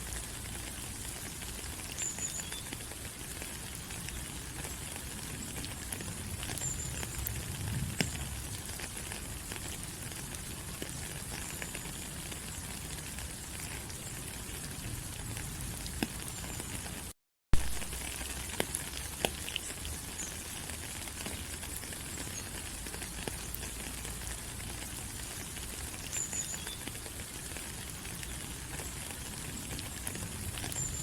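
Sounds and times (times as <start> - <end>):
rain on leaves: 0.0 - 31.0.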